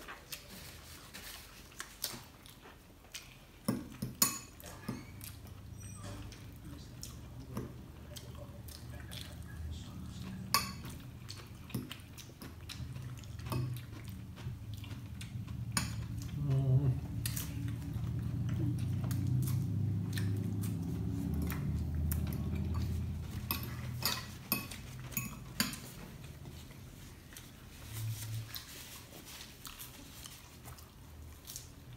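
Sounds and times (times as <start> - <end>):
chewing: 0.0 - 31.9.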